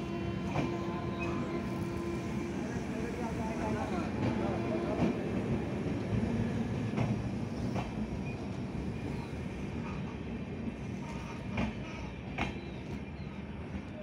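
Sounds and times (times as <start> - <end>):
train coaches rumbling past: 0.0 - 14.0.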